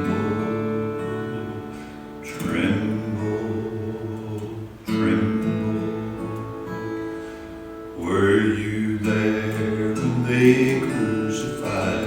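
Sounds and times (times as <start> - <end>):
person singing: 0.0 - 6.8, 8.0 - 12.0
held hymn chords: 0.0 - 12.0.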